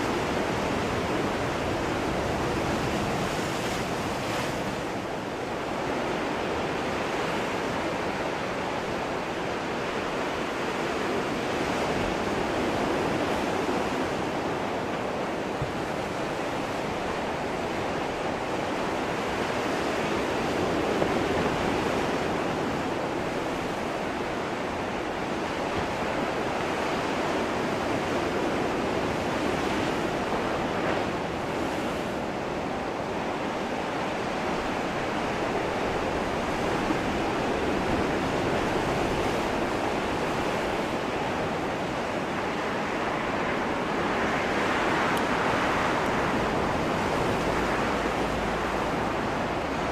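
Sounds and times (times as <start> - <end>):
ocean waves washing in: 0.0 - 49.9.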